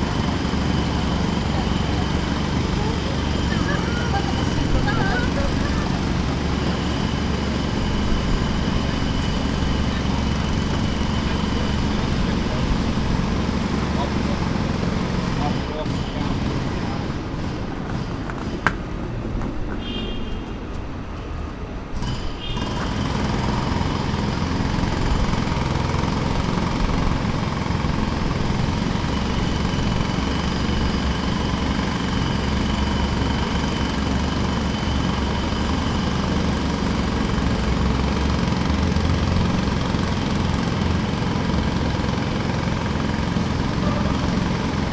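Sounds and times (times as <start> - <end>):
jackhammer breaking pavement: 0.0 - 19.0, 21.9 - 44.9.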